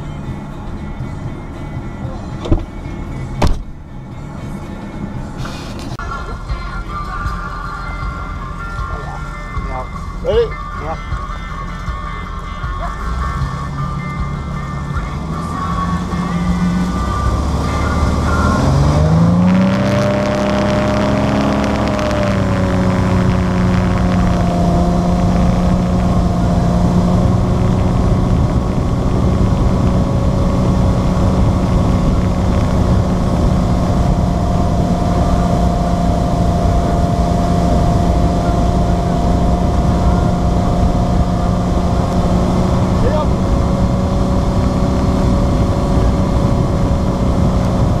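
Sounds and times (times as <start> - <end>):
constant rushing noise: 0.0 - 48.0
motorboat engine: 0.0 - 48.0.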